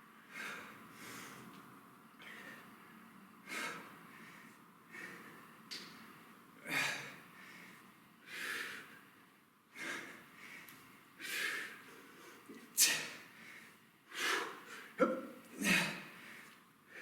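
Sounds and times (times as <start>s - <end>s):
man breathing hard: 0.2s - 1.6s, 2.2s - 17.0s.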